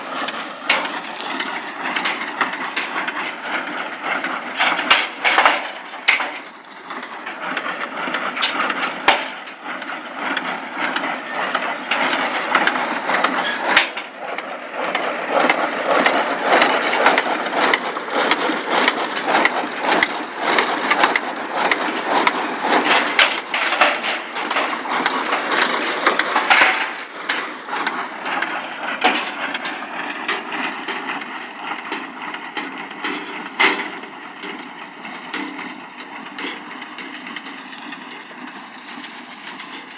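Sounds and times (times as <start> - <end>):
baler mechanical clatter: 0.0 - 39.9
tractor engine running: 0.0 - 39.9.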